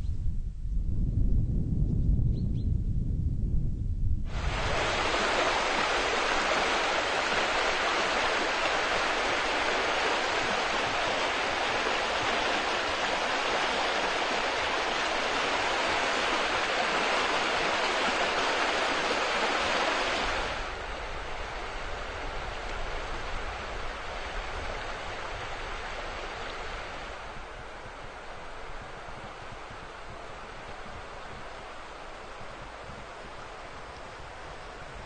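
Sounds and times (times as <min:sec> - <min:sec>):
river rushing over rocky rapids: 0:04.3 - 0:34.9.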